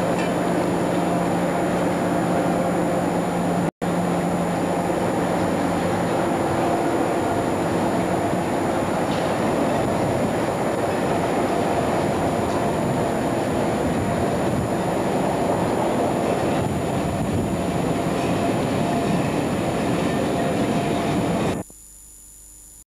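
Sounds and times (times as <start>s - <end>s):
train rumbling: 0.0s - 21.6s.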